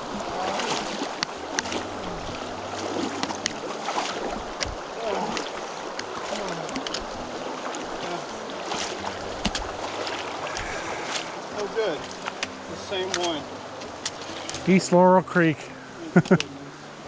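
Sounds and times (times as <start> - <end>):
water splashing around legs: 0.0 - 14.8
stream rushing: 0.0 - 17.0.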